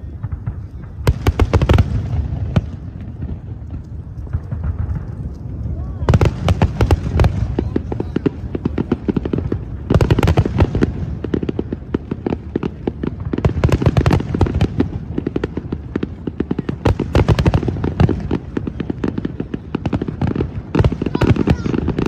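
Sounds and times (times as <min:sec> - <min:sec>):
fireworks crackling bangs: 0:00.0 - 0:22.0.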